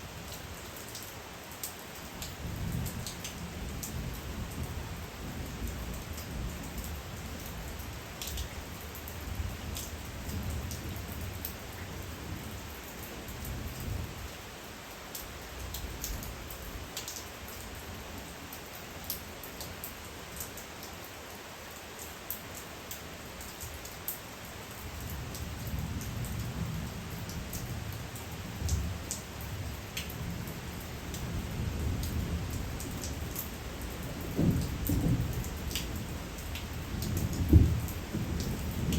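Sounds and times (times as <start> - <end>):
steady rainfall: 0.0 - 38.9
raindrops ticking: 0.2 - 38.9.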